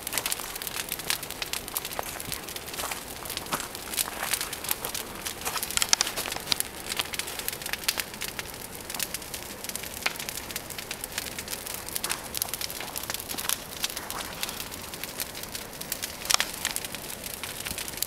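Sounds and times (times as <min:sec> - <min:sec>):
crackling and popping twigs: 0:00.0 - 0:18.0.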